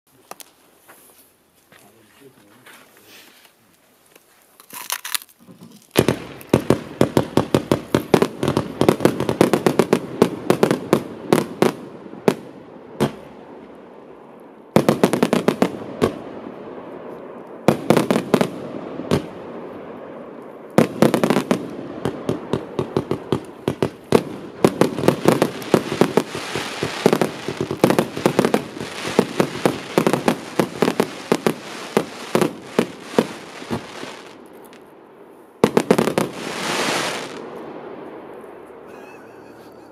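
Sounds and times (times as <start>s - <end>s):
fireworks launching and bursting: 4.8s - 34.9s, 35.6s - 39.9s.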